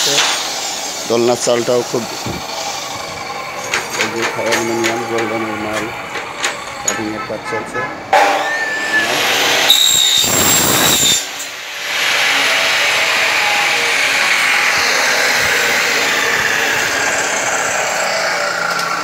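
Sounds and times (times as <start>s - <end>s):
power saw cutting metal: 0.0s - 19.0s.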